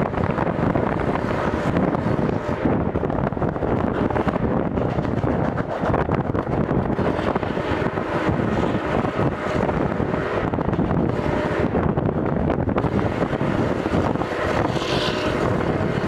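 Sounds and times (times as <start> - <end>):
train wheels rumbling on rails: 0.0 - 16.0
wind buffeting microphone: 0.0 - 16.0.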